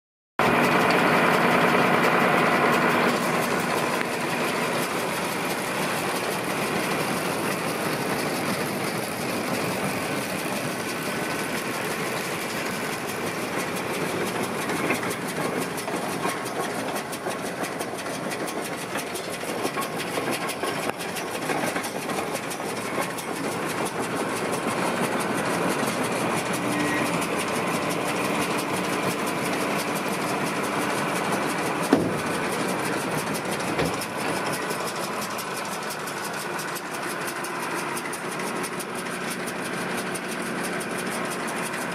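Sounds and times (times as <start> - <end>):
baler machinery turning: 0.4 - 41.9
tractor engine running: 0.4 - 41.9.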